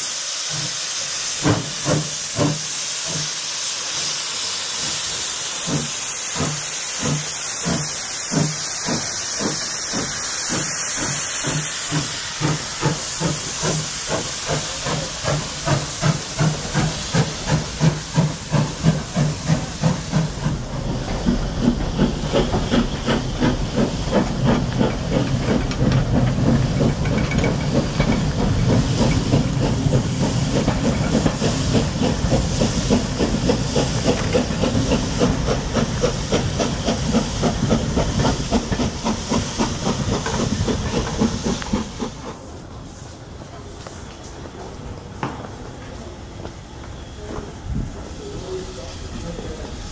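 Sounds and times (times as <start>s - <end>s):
steam hissing: 0.0s - 49.9s
steam locomotive chuffing: 0.0s - 49.9s
coaches rumbling on rails: 4.8s - 49.9s.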